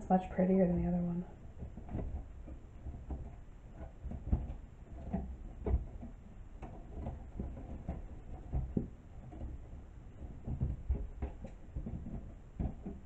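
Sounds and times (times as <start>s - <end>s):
rope rubbing: 1.3s - 13.0s
wooden clothespins knocking: 1.4s - 13.0s.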